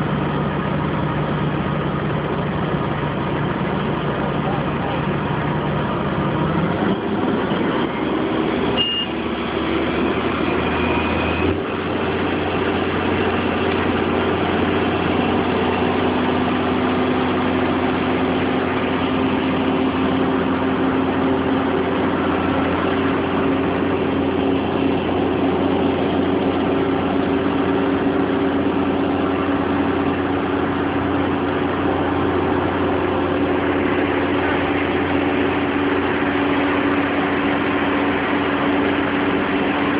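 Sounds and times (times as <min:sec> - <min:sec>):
crane engine running: 0:00.0 - 0:39.9.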